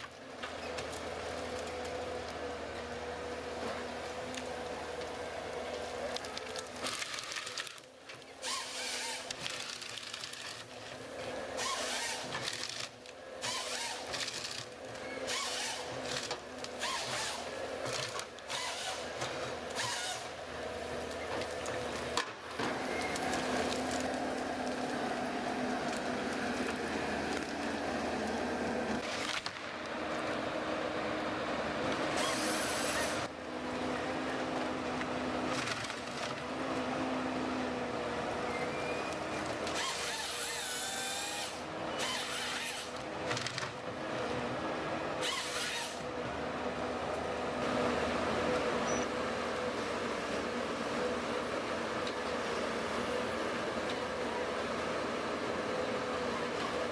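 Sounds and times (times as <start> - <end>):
wood-processing machinery humming: 0.0 - 56.9.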